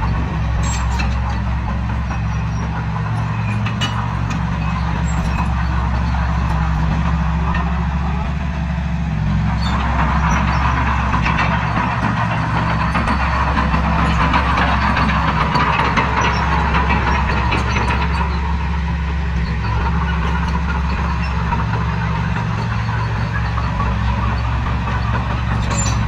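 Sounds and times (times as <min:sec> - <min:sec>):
diesel machinery engine running: 0:00.0 - 0:26.0
higher noisy mechanical layer: 0:00.0 - 0:26.0.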